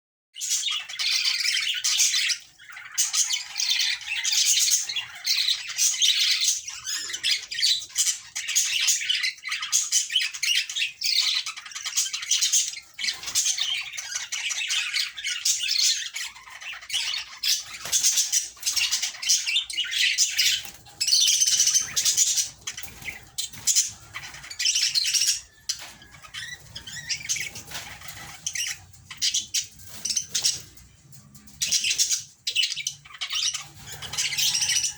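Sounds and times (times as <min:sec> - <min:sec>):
budgerigars chattering: 0:00.4 - 0:34.9.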